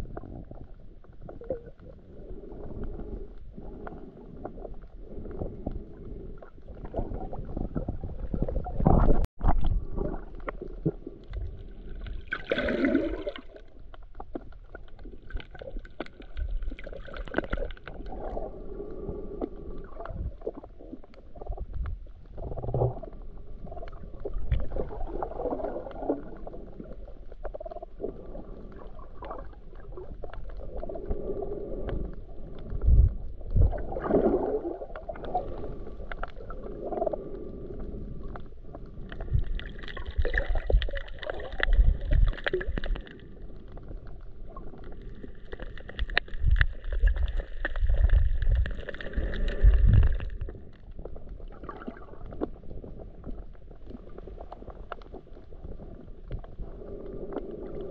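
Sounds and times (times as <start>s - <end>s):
water gurgling underwater: 0.0s - 57.9s.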